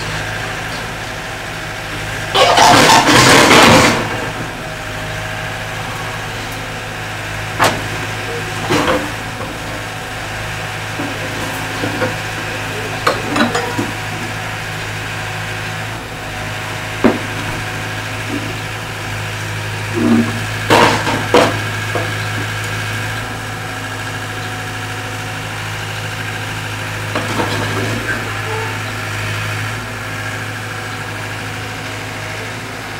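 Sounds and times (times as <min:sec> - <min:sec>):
excavator engine running: 0:00.0 - 0:32.9.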